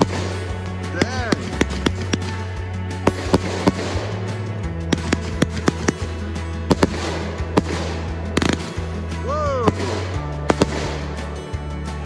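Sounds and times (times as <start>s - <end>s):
fireworks bangs and crackles: 0.0s - 11.6s
music with bass: 0.0s - 12.0s.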